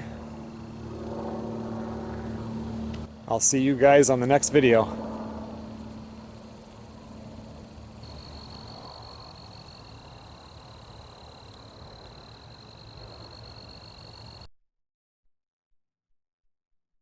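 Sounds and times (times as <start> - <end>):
insects trilling: 0.0 - 14.5.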